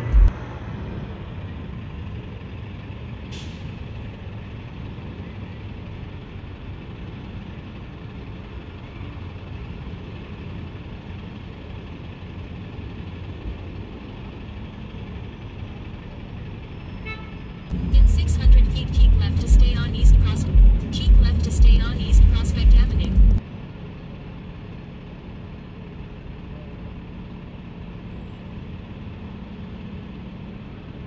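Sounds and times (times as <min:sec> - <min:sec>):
city traffic noise: 0:00.0 - 0:31.0.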